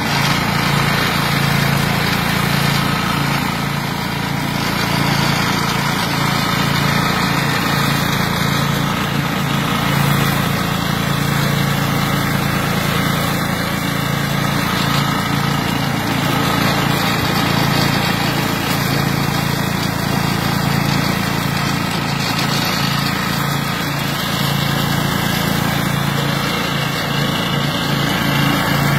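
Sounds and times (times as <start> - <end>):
mower engine humming: 0.0 - 28.9.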